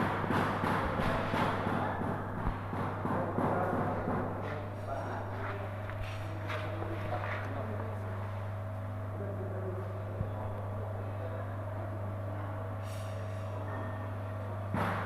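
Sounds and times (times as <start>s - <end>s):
machine running with low hum: 0.0s - 15.0s.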